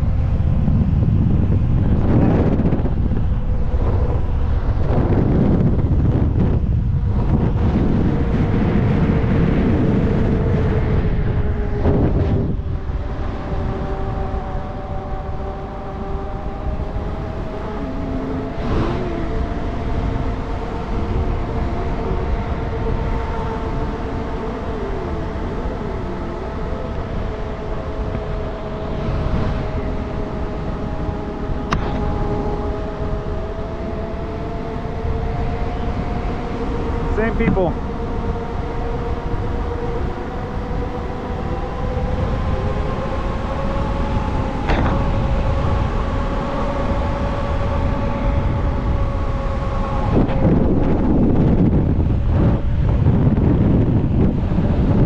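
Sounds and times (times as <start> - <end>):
wind rumble on microphone: 0.0 - 55.0
electric motor whining: 0.2 - 55.0.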